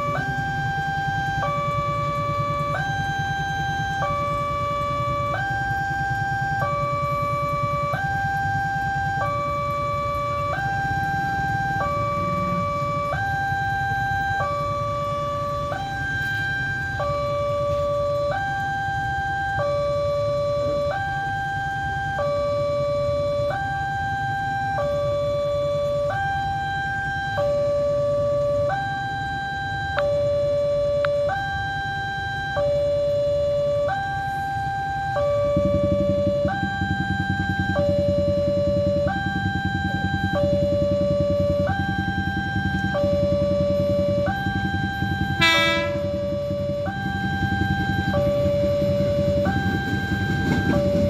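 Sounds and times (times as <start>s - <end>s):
level crossing two-tone alarm: 0.0s - 51.0s.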